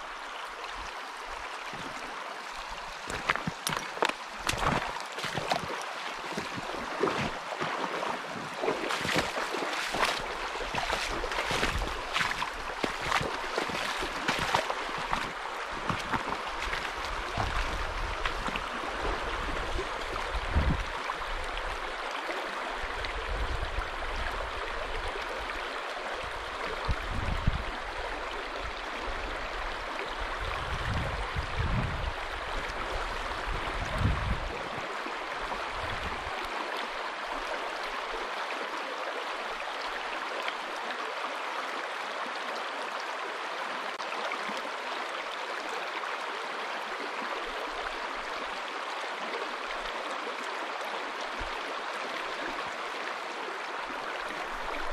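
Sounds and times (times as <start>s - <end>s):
river rushing over stones: 0.0s - 54.9s.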